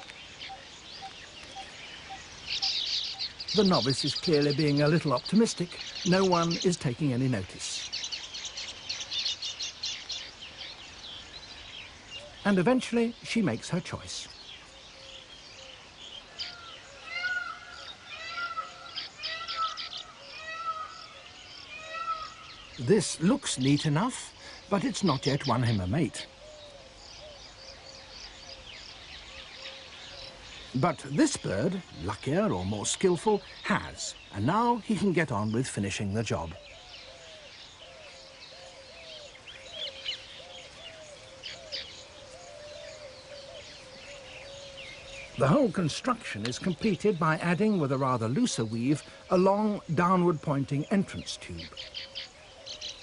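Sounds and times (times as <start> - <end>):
bird chatter: 0.0 - 53.0.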